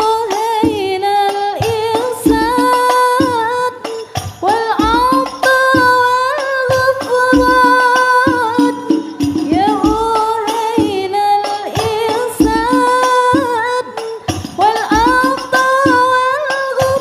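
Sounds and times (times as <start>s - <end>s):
frame drums beating: 0.0s - 17.0s
woman singing: 0.0s - 17.0s.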